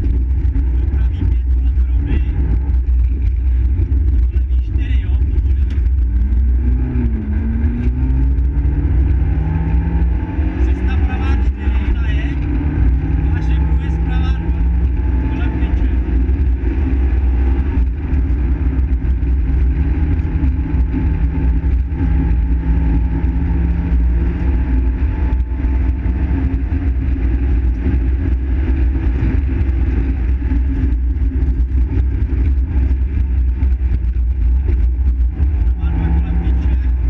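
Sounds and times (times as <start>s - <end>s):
car engine running hard: 0.0s - 37.0s.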